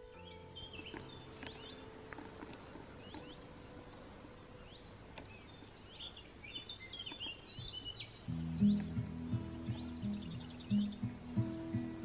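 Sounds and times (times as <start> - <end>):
faint steady background hiss: 0.0 - 12.0
wild birds chirping and whistling: 0.0 - 12.0.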